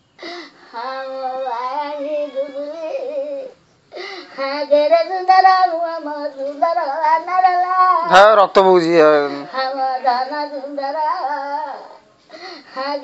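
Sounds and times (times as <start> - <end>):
woman singing a lament: 0.4 - 8.1, 9.4 - 13.0.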